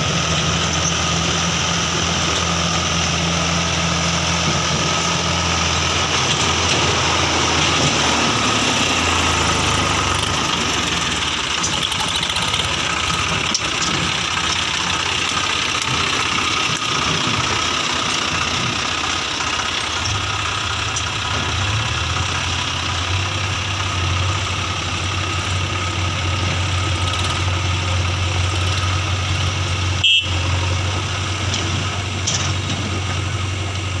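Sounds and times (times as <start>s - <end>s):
diesel engines running: 0.0s - 34.0s
low tractor engine hum: 0.0s - 34.0s.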